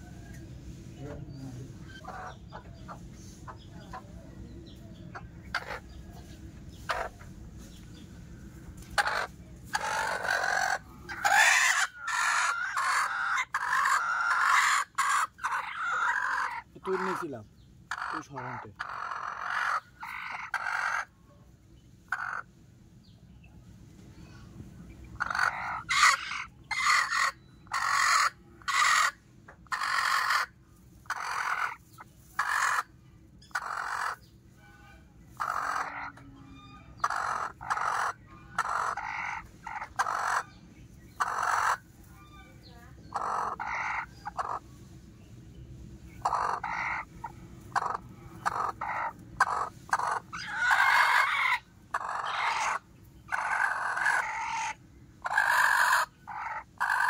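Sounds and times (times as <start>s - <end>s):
chickens clucking and squawking: 0.0s - 57.0s.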